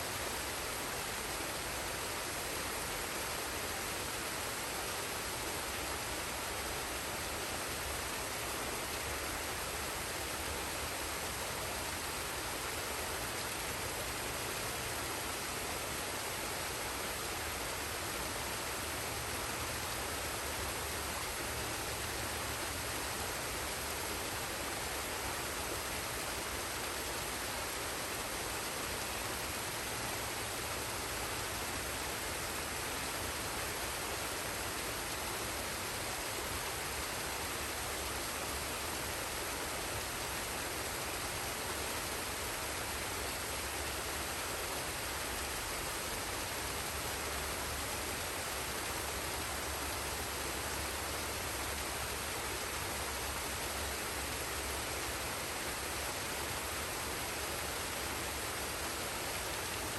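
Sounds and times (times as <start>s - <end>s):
waterfall and stream flowing: 0.0s - 59.9s.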